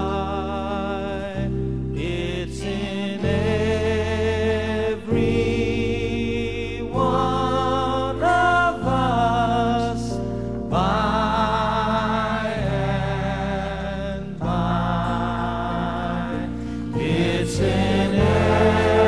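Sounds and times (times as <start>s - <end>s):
slow music with held chords: 0.0s - 19.0s
sustained vocal-like tones: 0.0s - 19.0s.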